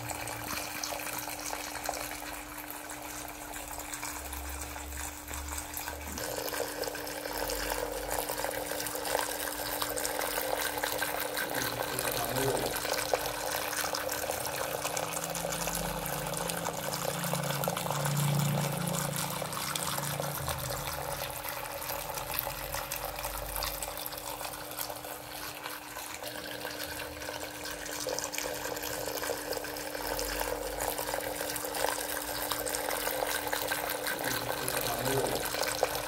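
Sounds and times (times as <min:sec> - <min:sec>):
fountain water trickling and splashing: 0:00.0 - 0:36.0.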